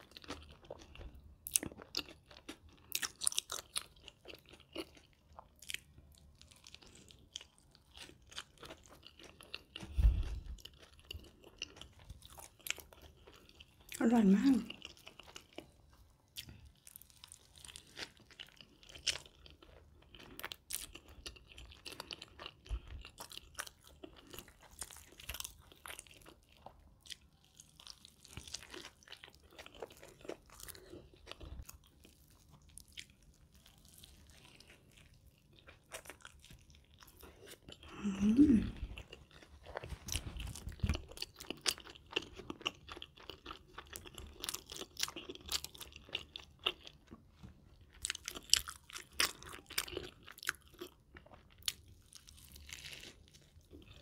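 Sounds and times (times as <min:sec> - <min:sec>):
biting and chewing: 0:00.0 - 0:14.1, 0:14.7 - 0:38.0, 0:38.6 - 0:54.0.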